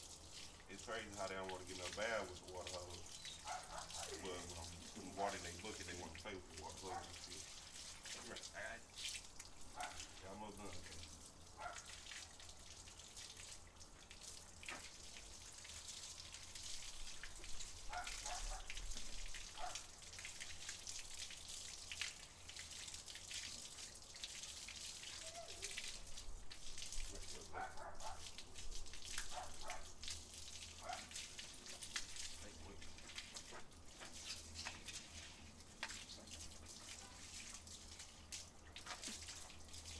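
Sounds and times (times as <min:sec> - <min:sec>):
hose water pattering on concrete: 0:00.0 - 0:39.9.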